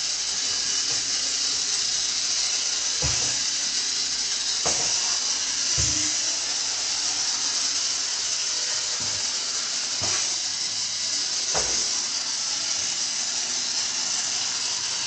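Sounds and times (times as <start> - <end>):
toy motor and gears whirring: 0.0 - 15.0.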